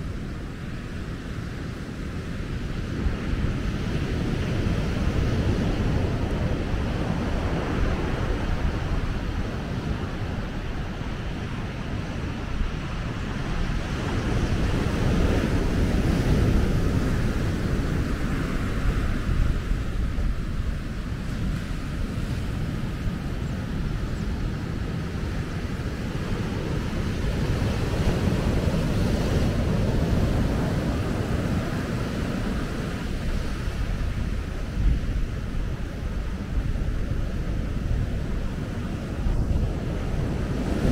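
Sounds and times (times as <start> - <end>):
wind buffeting microphone: 0.0 - 40.9
ocean surf breaking: 2.3 - 40.9.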